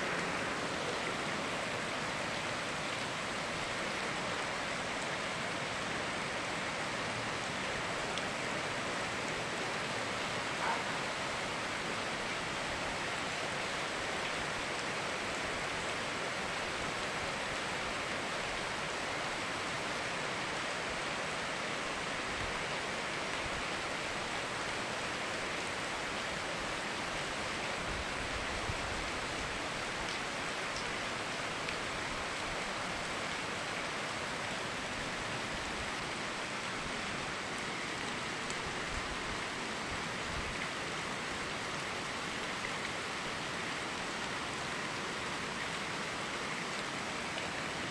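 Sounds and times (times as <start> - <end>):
flowing stream: 0.0 - 47.9
steady rain falling: 0.0 - 47.9.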